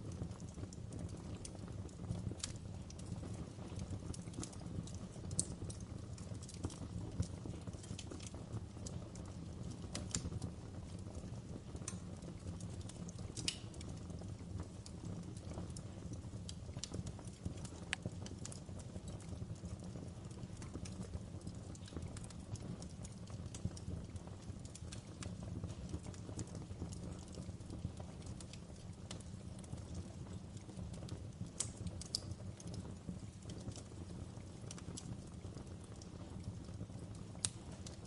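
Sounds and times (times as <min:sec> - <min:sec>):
fire crackling and popping: 0:00.0 - 0:38.0
fire flames rushing: 0:00.0 - 0:38.0.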